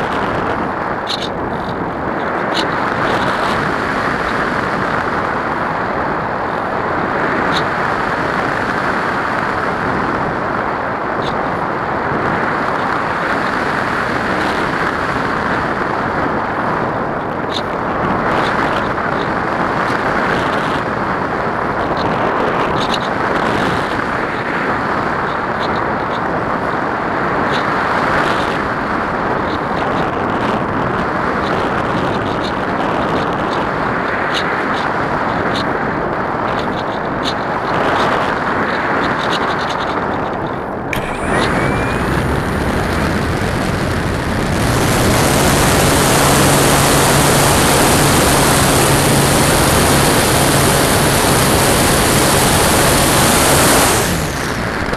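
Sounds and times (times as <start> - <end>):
wind rushing over camera: 0.0 - 54.9.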